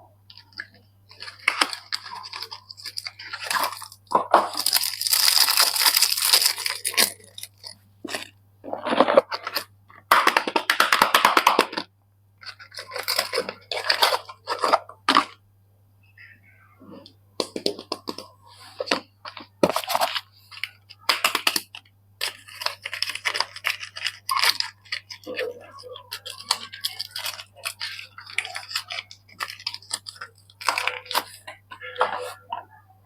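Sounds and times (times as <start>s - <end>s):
crinkling packaging: 0.3s - 15.4s, 17.4s - 32.6s.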